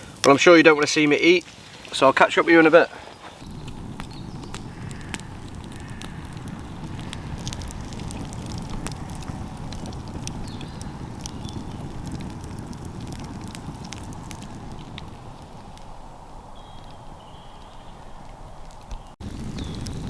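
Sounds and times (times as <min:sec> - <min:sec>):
campfire crackling: 0:00.0 - 0:20.0
low fire rumble: 0:00.0 - 0:20.0.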